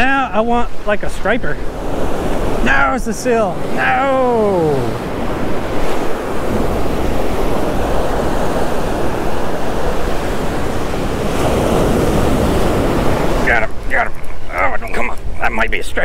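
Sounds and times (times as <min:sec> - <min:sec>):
ocean surf breaking on beach: 0:00.0 - 0:15.5
wind blowing across microphone: 0:00.0 - 0:16.0.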